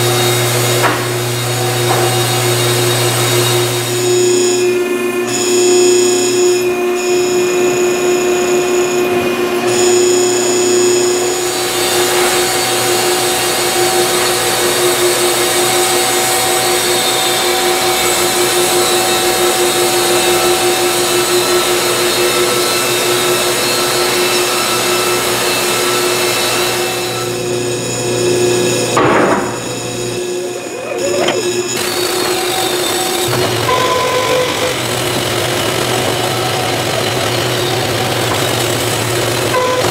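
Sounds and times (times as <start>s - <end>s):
band saw blade cutting log: 0.0s - 5.5s, 6.2s - 39.9s
sawmill humming: 0.0s - 39.9s.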